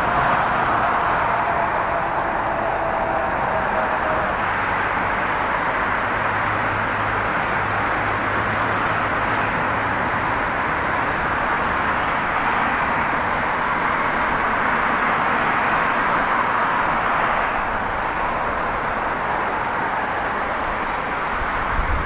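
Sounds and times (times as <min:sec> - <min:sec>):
distant jet roar: 0:00.0 - 0:22.0.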